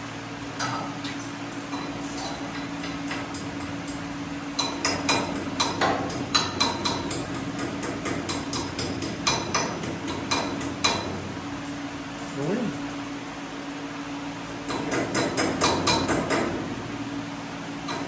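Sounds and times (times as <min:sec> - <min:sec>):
low shop hum: 0:00.0 - 0:18.0.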